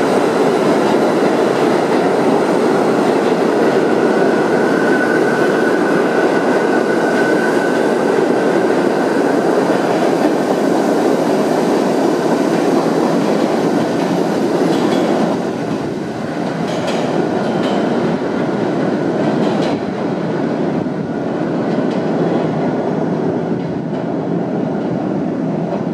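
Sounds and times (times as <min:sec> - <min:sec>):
subway train rumbling on rails: 0:00.0 - 0:25.9.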